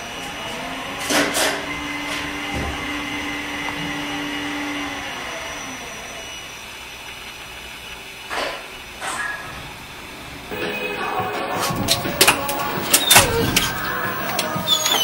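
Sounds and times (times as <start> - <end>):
elevator machinery whir: 0.0 - 15.0.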